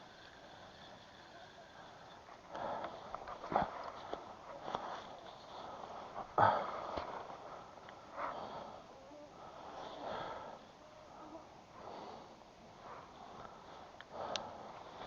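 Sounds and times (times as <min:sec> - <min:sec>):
person breathing close to microphone: 0:00.0 - 0:15.0.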